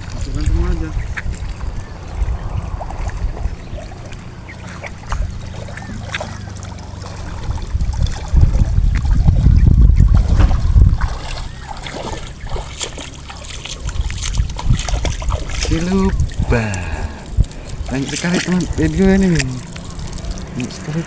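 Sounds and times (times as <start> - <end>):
low rumble on microphone: 0.0 - 21.0
water trickling and splashing: 0.0 - 21.0.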